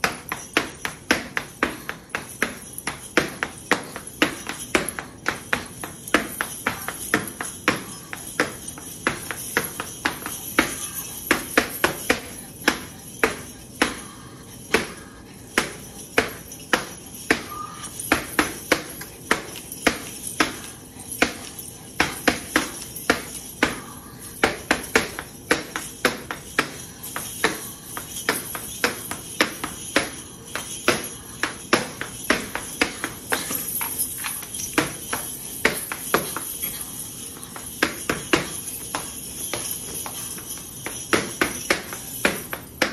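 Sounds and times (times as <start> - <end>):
dance shoes striking hard floor: 0.0 - 42.9.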